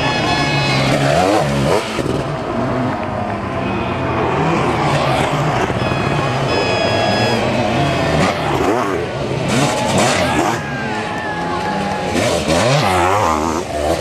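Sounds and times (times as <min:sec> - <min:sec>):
motorcycle engine revving hard: 0:00.0 - 0:02.9, 0:04.3 - 0:14.0.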